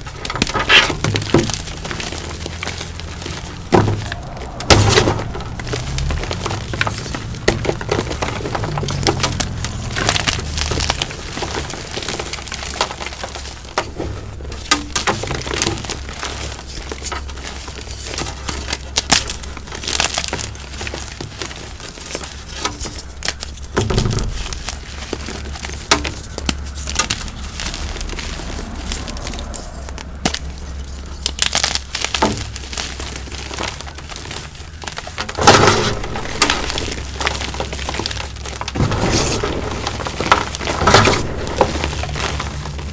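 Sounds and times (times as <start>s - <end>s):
chalk blocks crushed by hand: 0.0s - 29.5s, 30.1s - 42.9s.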